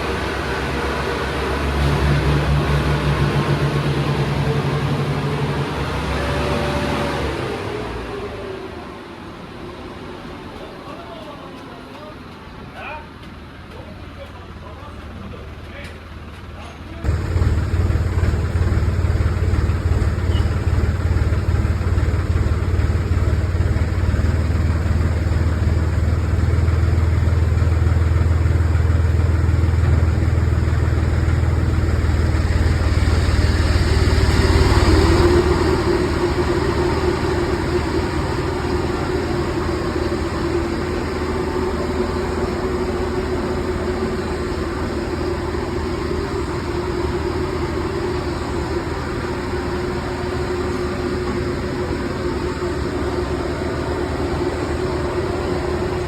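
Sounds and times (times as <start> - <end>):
higher engine drone: 0.0 - 10.0, 17.1 - 56.0
engine low hum: 0.0 - 56.0.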